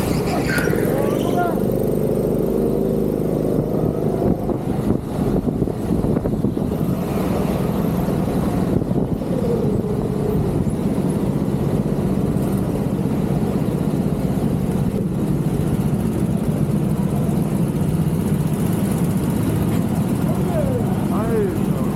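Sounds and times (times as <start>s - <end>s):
go-kart engine running: 0.0s - 21.9s.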